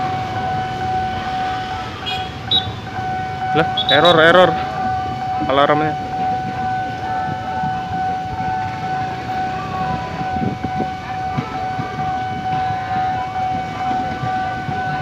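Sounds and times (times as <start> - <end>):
electric train rumble: 0.0 - 15.0
level crossing alarm steady tone: 0.0 - 15.0.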